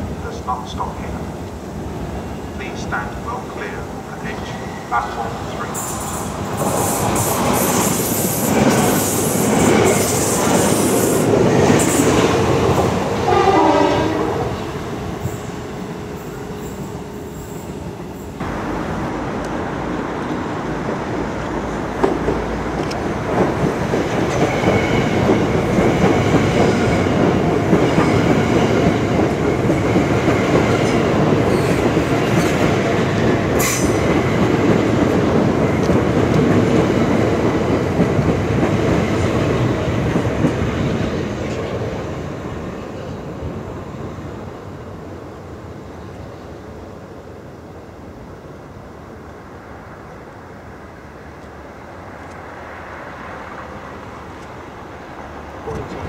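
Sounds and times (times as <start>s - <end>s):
electric trains passing: 0.0s - 56.0s
wheel and rail rush: 0.0s - 56.0s.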